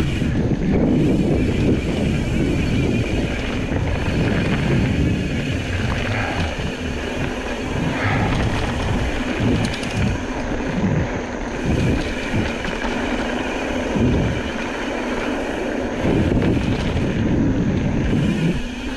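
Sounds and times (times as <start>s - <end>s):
tyres rolling on dirt trail: 0.0s - 18.9s
wind rushing over microphone: 0.0s - 18.9s
bike thumping over bumps: 0.1s - 18.4s.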